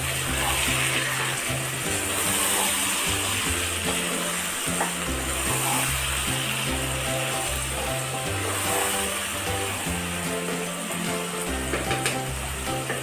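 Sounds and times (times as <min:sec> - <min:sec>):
background music with bass notes: 0:00.0 - 0:13.0
food sizzling in a hot pan: 0:00.0 - 0:13.0.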